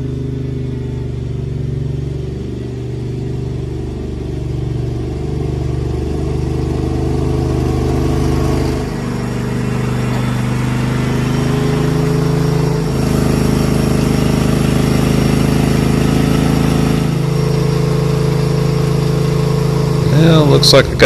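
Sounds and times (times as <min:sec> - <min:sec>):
riding mower engine running: 0:00.0 - 0:21.0.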